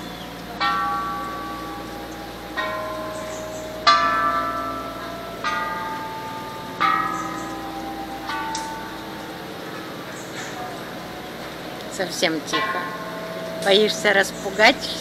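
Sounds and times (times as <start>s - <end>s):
metal bells struck and ringing: 0.0s - 15.0s.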